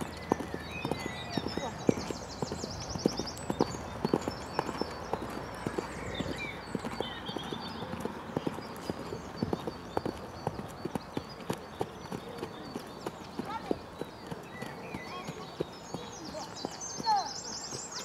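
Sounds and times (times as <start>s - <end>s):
hoofbeats on dirt: 0.0s - 18.0s.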